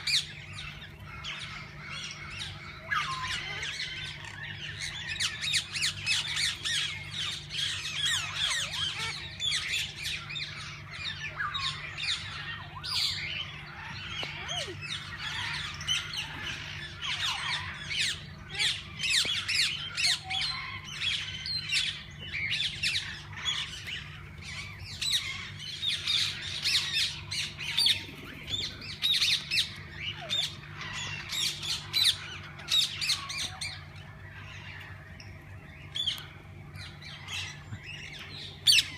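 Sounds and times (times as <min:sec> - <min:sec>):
parakeets squawking: 0:00.0 - 0:38.9.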